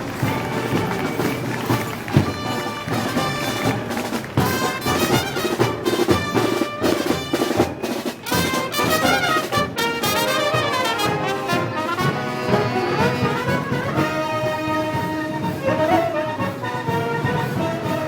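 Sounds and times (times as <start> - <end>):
brass band playing: 0.0 - 18.0
drum beats: 0.0 - 18.0.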